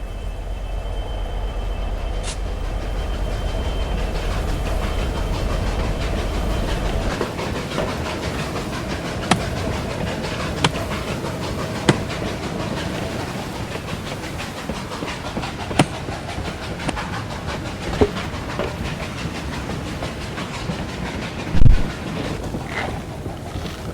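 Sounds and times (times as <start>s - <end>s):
steam locomotive hiss and rattle: 0.0s - 23.9s.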